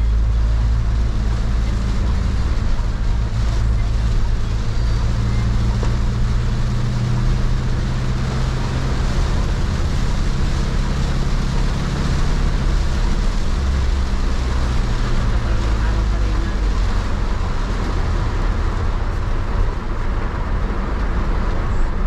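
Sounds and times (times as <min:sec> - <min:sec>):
engine and road drone: 0:00.0 - 0:22.0
rain hissing: 0:00.0 - 0:22.0
tyres on wet road: 0:00.0 - 0:22.0.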